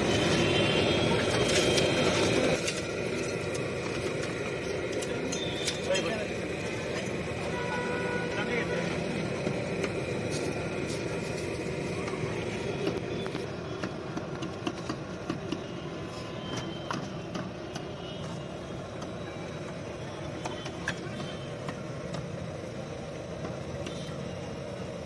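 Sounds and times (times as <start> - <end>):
traffic hum: 0.0 - 25.0.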